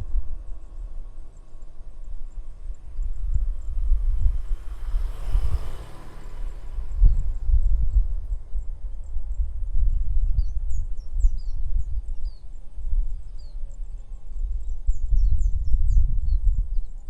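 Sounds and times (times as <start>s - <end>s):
wind on microphone: 0.0s - 17.0s
small birds chirping: 0.3s - 17.0s.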